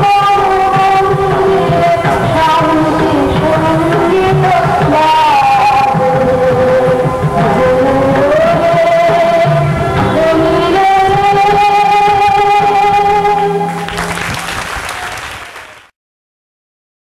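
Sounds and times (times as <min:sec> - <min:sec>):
low musical accompaniment: 0:00.0 - 0:14.8
singer holding long notes: 0:00.0 - 0:15.9.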